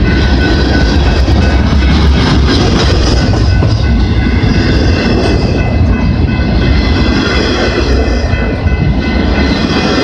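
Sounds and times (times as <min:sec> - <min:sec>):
freight train wheels rumbling on rail: 0:00.0 - 0:10.0.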